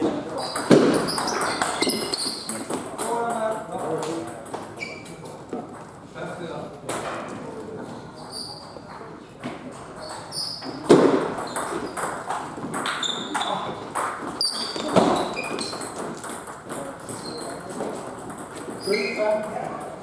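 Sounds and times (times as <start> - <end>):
shoes squeaking on floor: 0.0 - 2.9, 4.6 - 6.0, 7.8 - 19.8.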